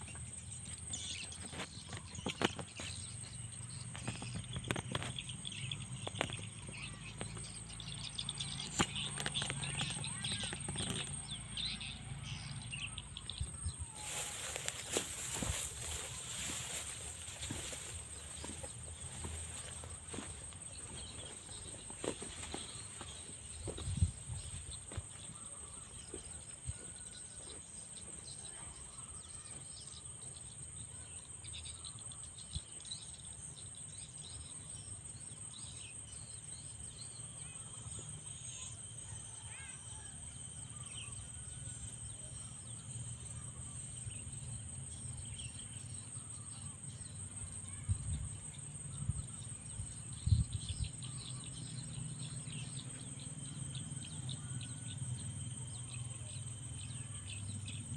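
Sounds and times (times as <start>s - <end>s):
insect trill: 0.0s - 57.9s.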